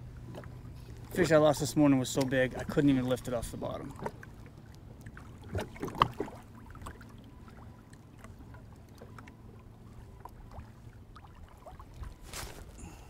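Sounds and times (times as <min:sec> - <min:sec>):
waves lapping against a hull: 0:00.0 - 0:13.0.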